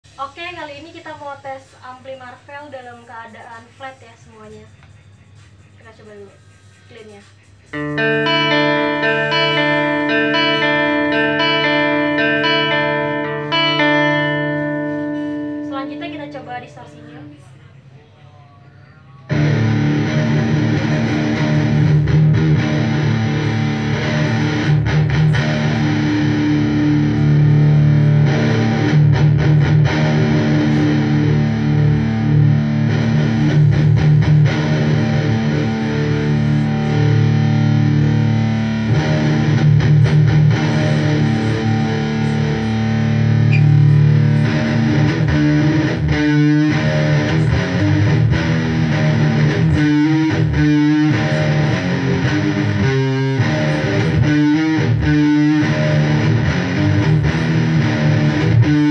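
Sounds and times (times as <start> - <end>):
distorted electric guitar: 4.4 - 17.9, 19.0 - 58.9.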